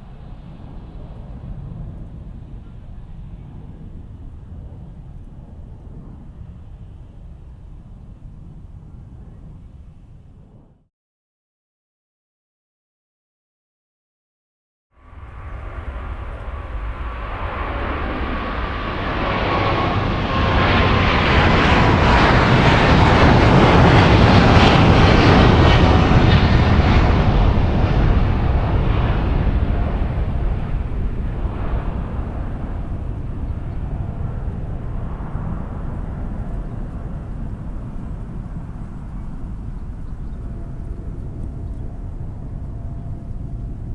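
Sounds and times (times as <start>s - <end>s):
jet engines at takeoff: 0.0s - 10.8s, 15.0s - 43.9s.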